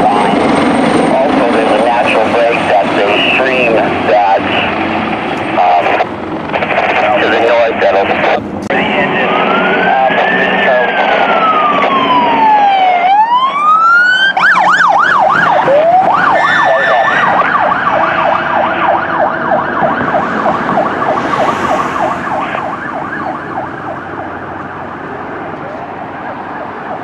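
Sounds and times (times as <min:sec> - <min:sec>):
siren wailing and yelping: 0:00.0 - 0:27.0.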